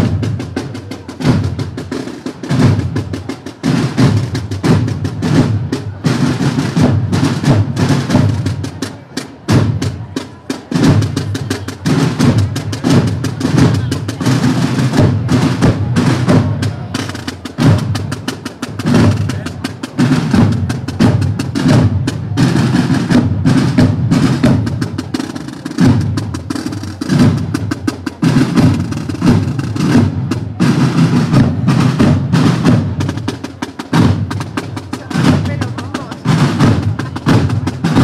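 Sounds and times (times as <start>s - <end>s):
marching drums: 0.0s - 38.0s.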